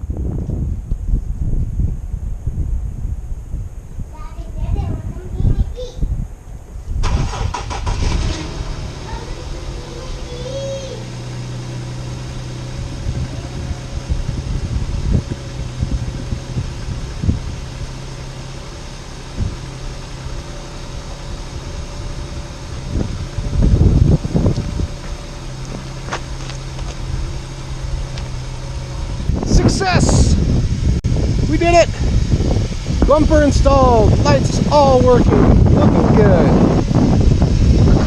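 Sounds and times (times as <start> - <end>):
low engine rumble: 0.0 - 38.0
car engine cranking and idling: 4.6 - 38.0.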